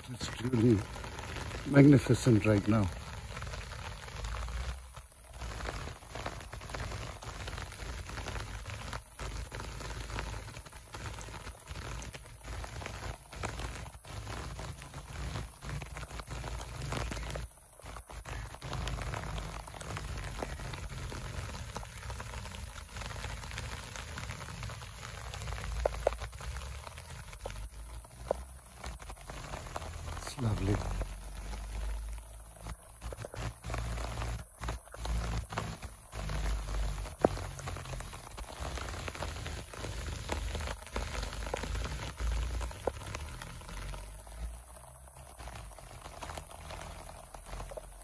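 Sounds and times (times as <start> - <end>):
heavy rain on trees and grass: 0.0 - 48.0.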